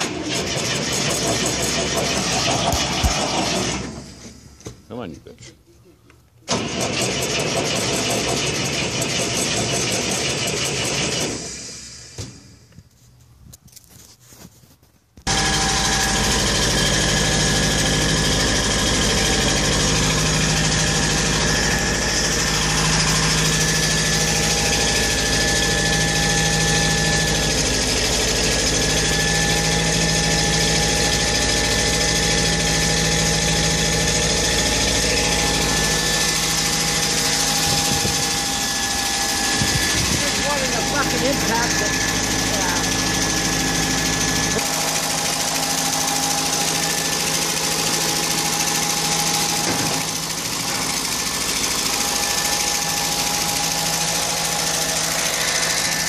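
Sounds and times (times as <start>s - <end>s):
air compressor engine running: 0.0s - 5.0s, 6.5s - 12.8s, 15.3s - 56.0s.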